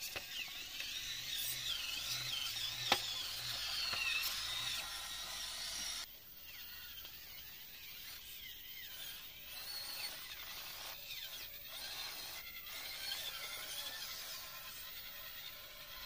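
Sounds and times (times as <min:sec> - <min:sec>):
electric motor and gear whine: 0:00.0 - 0:16.0.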